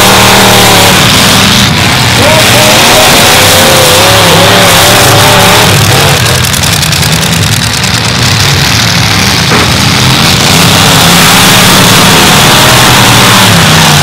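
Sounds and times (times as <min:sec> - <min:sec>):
car engines revving loudly: 0:00.0 - 0:14.0.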